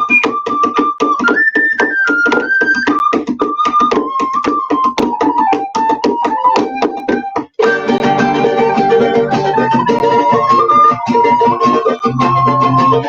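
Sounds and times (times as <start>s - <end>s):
instrumental music with fast pulse: 0.0s - 13.0s.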